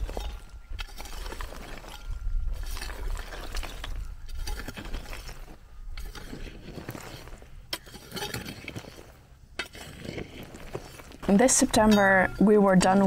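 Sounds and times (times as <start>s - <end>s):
hoe scraping stony soil: 0.0s - 13.0s
small stones clinking: 0.0s - 13.0s.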